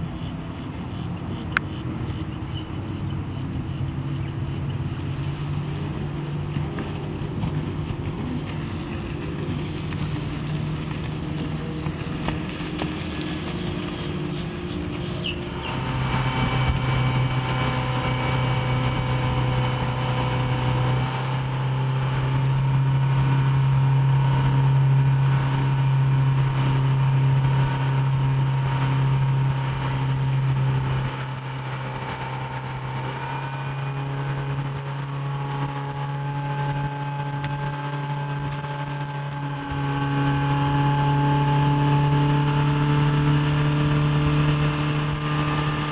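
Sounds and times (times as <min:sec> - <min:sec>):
boat engine running: 0:00.0 - 0:45.9.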